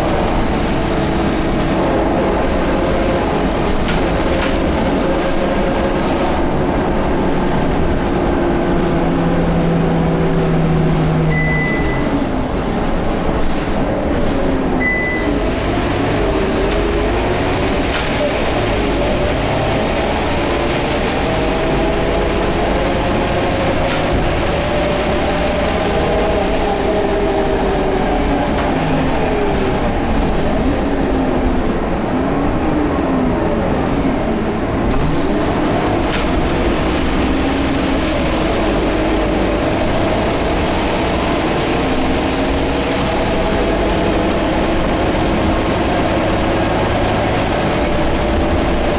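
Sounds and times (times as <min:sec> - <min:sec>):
bus engine pulling: 0:00.0 - 0:48.9.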